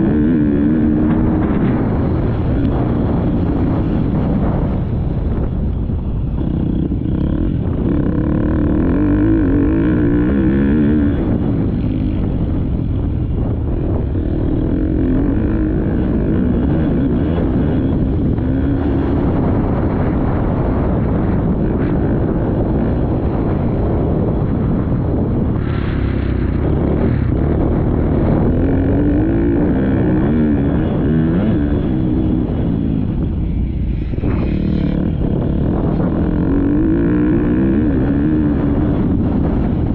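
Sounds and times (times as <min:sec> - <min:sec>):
dirt bike engine revving hard: 0:00.0 - 0:04.9, 0:06.4 - 0:12.6, 0:13.7 - 0:39.9.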